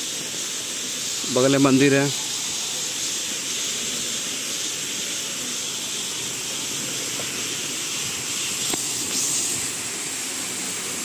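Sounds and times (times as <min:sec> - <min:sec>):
waterfall splashing on rock: 0:00.0 - 0:11.0.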